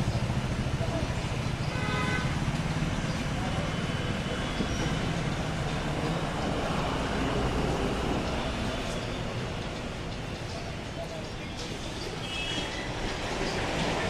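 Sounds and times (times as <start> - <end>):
rumble of vehicle noise: 0.0 - 14.0.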